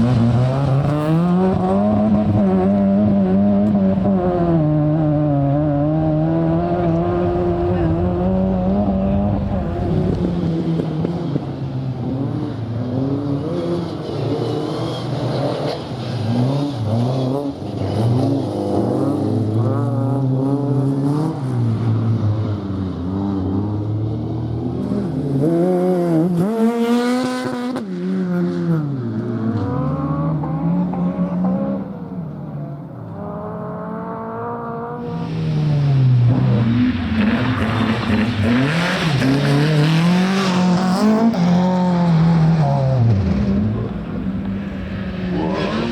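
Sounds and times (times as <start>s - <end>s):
rally car engine revving: 0.0s - 45.9s
rushing noise of passing car: 0.0s - 45.9s.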